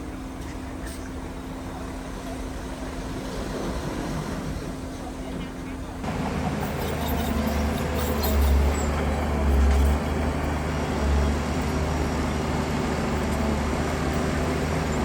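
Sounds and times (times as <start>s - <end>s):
heavy diesel machinery rumble: 0.0s - 15.0s.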